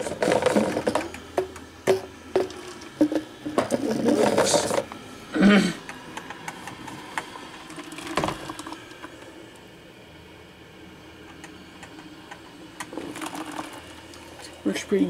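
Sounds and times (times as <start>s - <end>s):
coffee maker humming: 0.0s - 15.0s.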